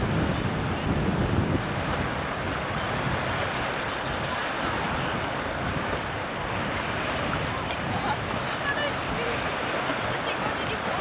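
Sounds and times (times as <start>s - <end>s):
wind buffeting microphone: 0.0s - 11.0s
wind over choppy water: 0.0s - 11.0s.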